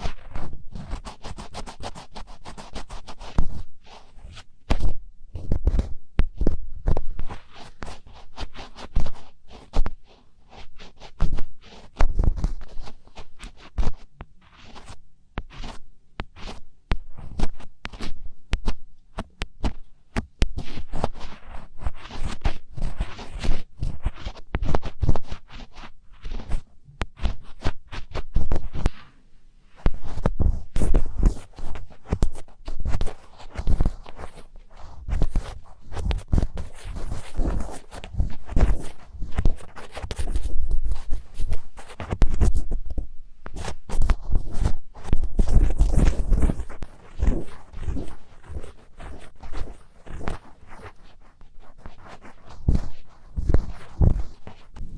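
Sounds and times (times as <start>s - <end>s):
close scratches and clicks: 0.0s - 54.9s.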